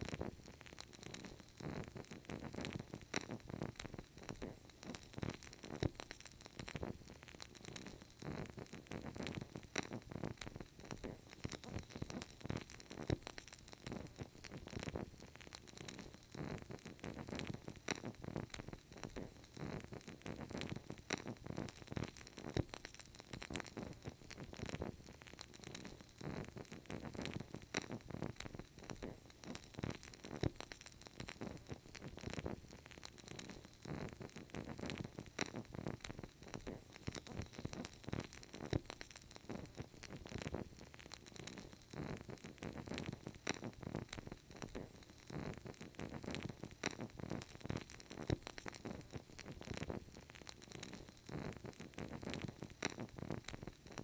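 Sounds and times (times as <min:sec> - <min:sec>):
candle flame crackling: 0:00.0 - 0:54.0.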